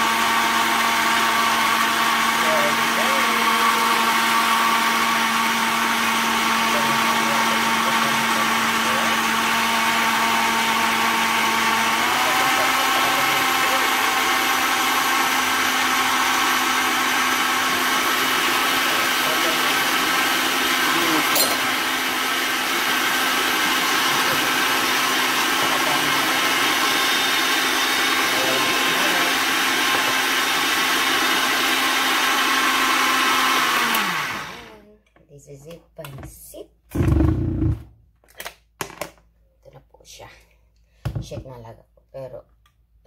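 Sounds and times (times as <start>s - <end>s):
blender running: 0.0s - 34.8s, 36.9s - 37.9s.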